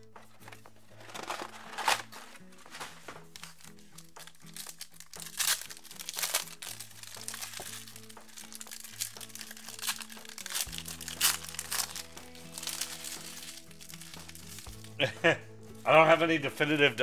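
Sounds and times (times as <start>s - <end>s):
background music with low notes: 0.0s - 17.0s
foil wrappers crinkling and tearing: 0.4s - 15.1s.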